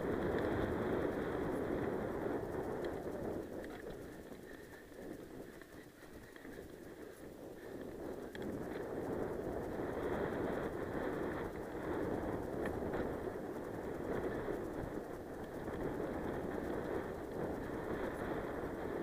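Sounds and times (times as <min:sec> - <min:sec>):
bike tyres on gravel trail: 0:00.0 - 0:19.0
wind on microphone: 0:00.0 - 0:19.0.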